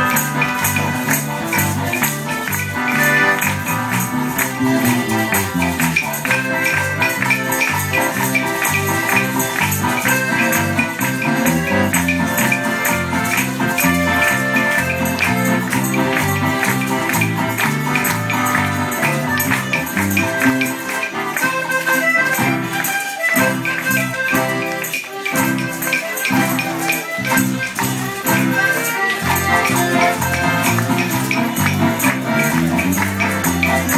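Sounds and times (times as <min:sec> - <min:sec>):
accordion: 0:00.0 - 0:33.9
guitars playing: 0:00.0 - 0:33.9
tambourines shaken and struck: 0:00.0 - 0:33.9.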